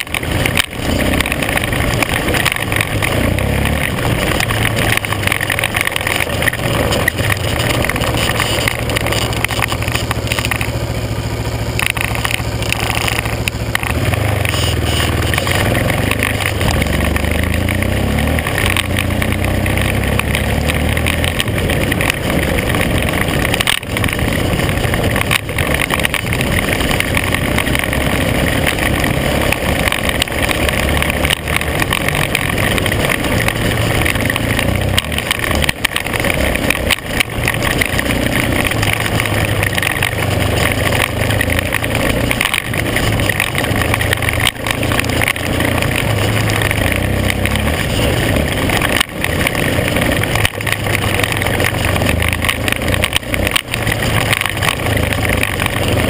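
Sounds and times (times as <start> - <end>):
off-road vehicle engine: 0.0 - 56.0
wind and road noise: 0.0 - 56.0.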